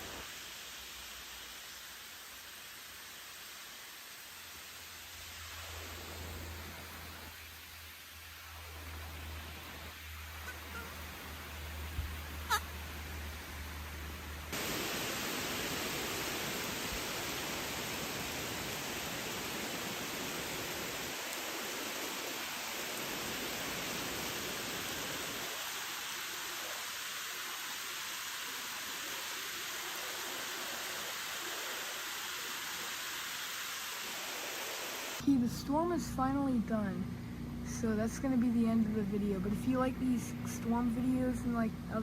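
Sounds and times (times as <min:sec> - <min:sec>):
steady rain falling: 0:00.0 - 0:35.2.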